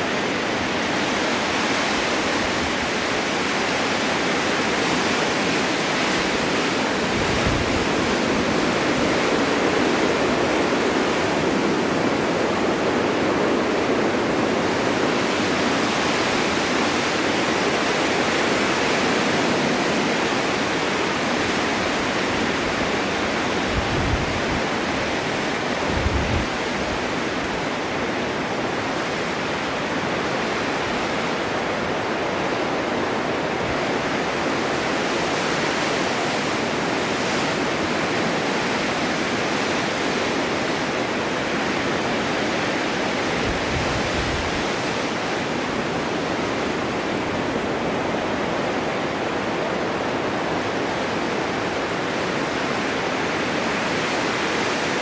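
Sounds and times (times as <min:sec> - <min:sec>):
low rumbling wind gusts: 0:00.0 - 0:55.0
snowstorm wind rushing: 0:00.0 - 0:55.0.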